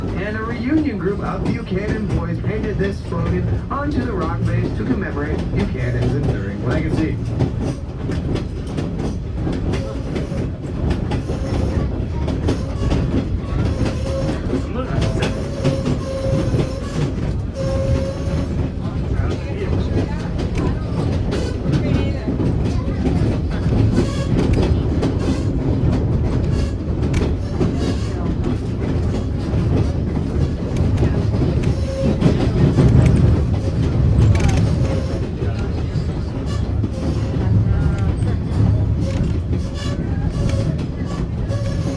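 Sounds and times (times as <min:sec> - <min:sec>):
train rumbling on track: 0:00.0 - 0:41.9
wheel and rail clicks: 0:00.0 - 0:41.9.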